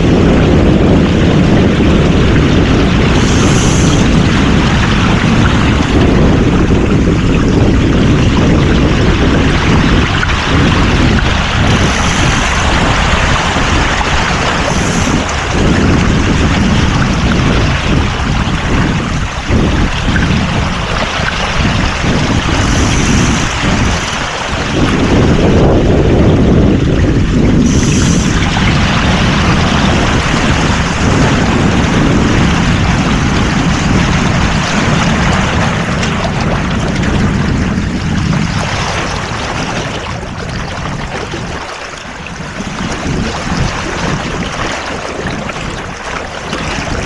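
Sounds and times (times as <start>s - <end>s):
water rushing and waves: 0.0s - 47.0s
wind buffeting microphone: 0.0s - 47.0s.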